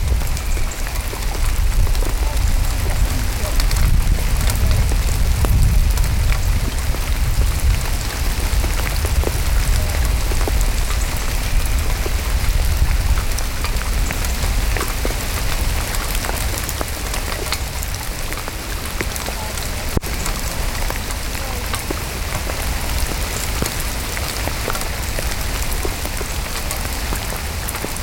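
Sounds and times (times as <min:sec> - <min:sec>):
heavy rain on water: 0:00.0 - 0:28.0
raindrops ticking on plastic bag: 0:00.0 - 0:28.0.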